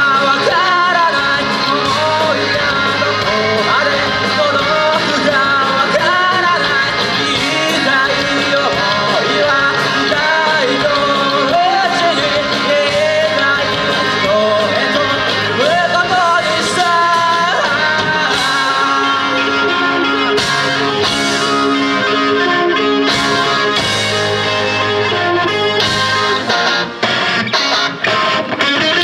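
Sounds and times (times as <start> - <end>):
live rock band playing: 0.0 - 29.0
sliding lead guitar melody: 0.0 - 29.0.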